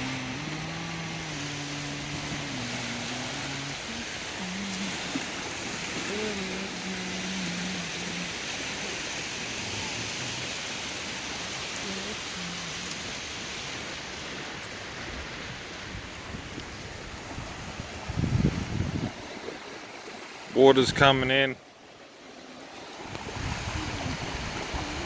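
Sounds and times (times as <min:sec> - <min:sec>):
small waves washing onto beach: 0:00.0 - 0:25.0.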